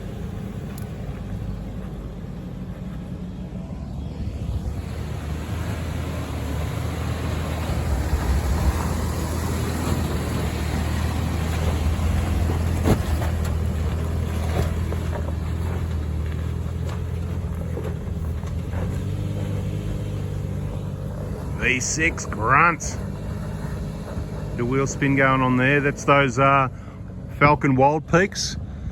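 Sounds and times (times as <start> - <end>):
car engine working hard: 0.0 - 28.9.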